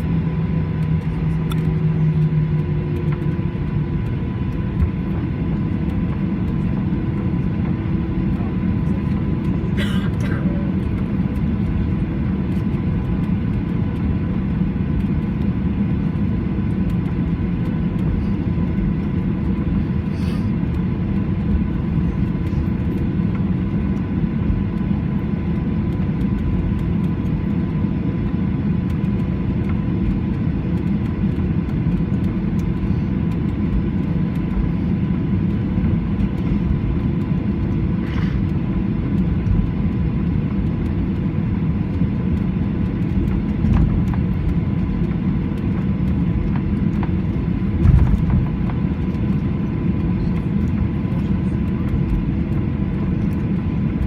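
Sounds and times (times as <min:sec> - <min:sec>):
airplane cabin rumble while taxiing: 0:00.0 - 0:54.0.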